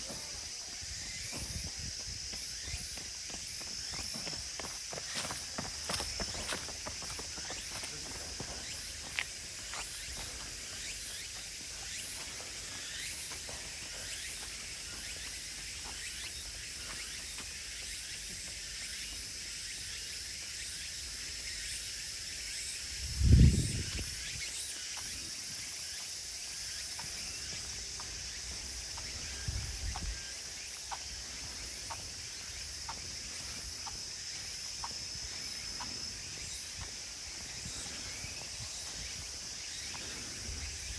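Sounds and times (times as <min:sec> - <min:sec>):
footsteps on woodland path: 0:00.0 - 0:21.5, 0:22.2 - 0:40.9
insect chorus drone: 0:00.0 - 0:40.9.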